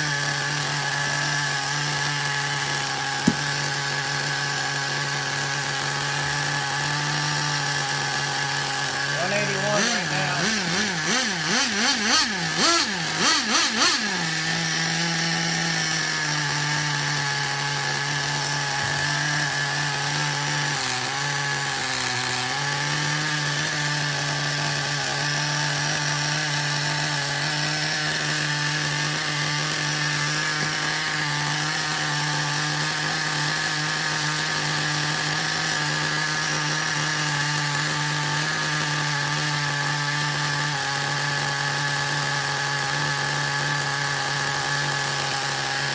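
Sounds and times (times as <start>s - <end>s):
model engine revving and idling: 0.0s - 45.9s.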